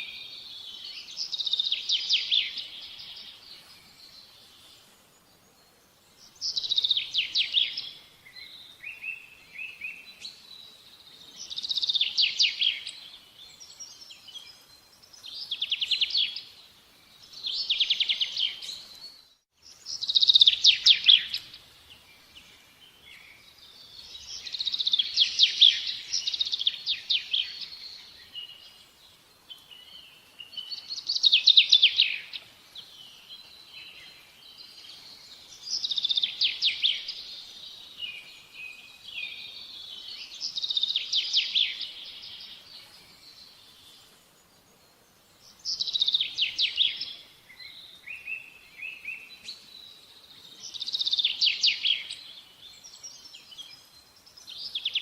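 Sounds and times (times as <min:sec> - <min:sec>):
bird singing trilled phrases: 0:00.0 - 0:04.7, 0:05.5 - 0:55.0.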